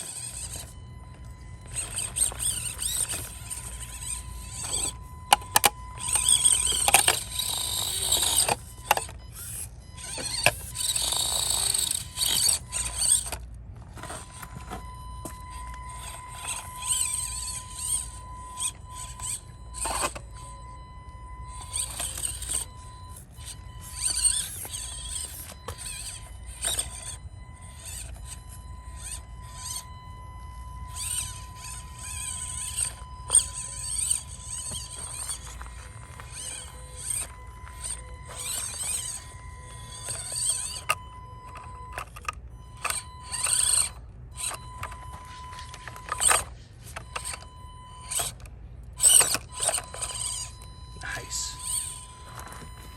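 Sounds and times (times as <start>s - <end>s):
small electric motor whining: 0.0s - 52.9s.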